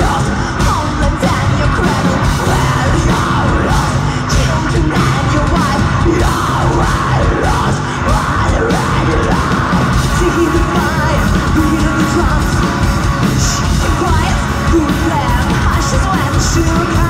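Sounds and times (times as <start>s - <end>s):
live metal band playing: 0.0s - 17.0s
woman singing: 0.0s - 17.0s.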